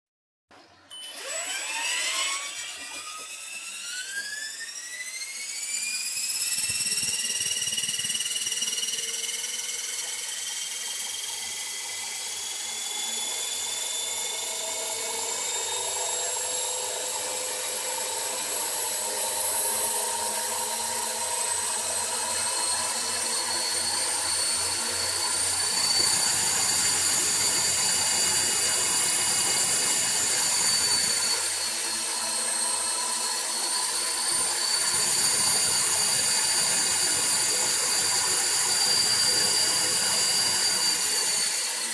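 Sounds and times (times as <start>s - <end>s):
electric rc helicopter whine: 0.8s - 41.9s.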